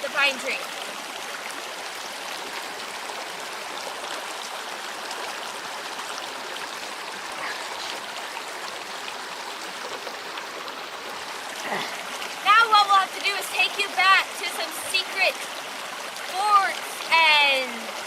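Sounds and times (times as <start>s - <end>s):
creek rushing over rocks: 0.0s - 18.0s.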